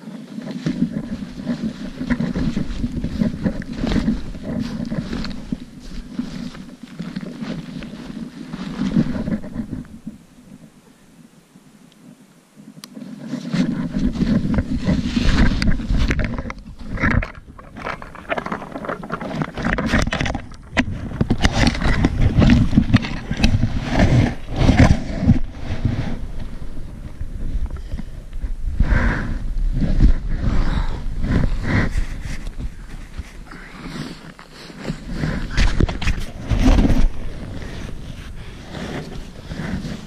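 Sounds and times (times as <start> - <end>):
rubbing on microphone: 0.0 - 10.7, 12.9 - 40.0
deep snow crunching and scraping: 0.0 - 10.8, 12.9 - 40.0.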